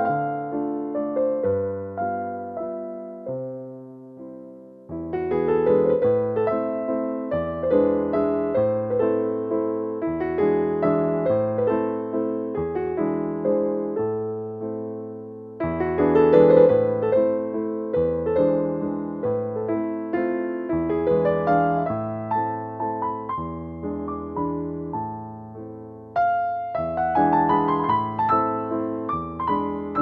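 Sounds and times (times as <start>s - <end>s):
gentle piano melody: 0.0s - 30.0s.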